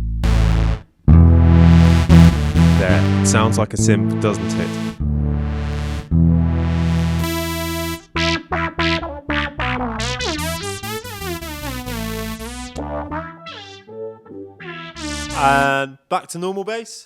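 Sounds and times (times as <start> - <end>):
electric bass through effects: 0.0 - 15.6.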